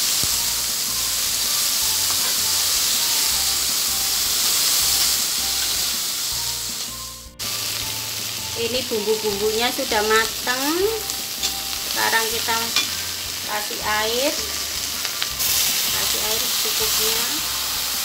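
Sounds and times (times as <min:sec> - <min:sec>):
metal spatula stir-frying: 0:00.0 - 0:18.0
vegetables sizzling in hot oil: 0:00.0 - 0:18.0.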